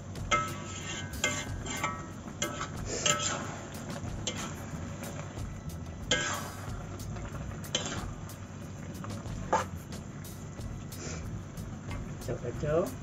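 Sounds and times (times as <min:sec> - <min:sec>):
low hum: 0:00.0 - 0:13.0
metal turner scraping a wok: 0:00.0 - 0:13.0.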